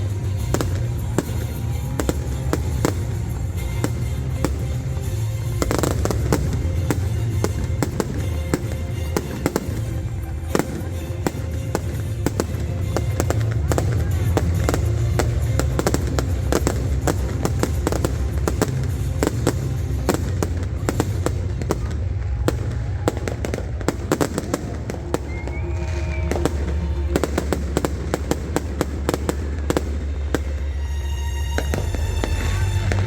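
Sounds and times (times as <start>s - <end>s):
firework whistle: 0.0s - 33.0s
fireworks bangs and crackles: 0.0s - 33.0s.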